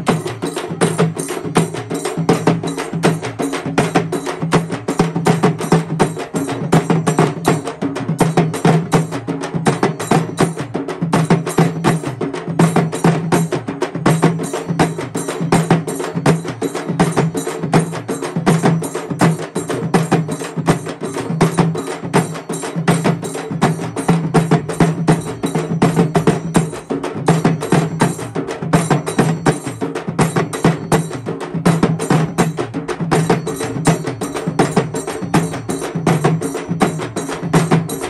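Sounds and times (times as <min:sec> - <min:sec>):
barrel drum: 0:00.0 - 0:38.0
frame drums beaten with sticks: 0:00.0 - 0:38.0.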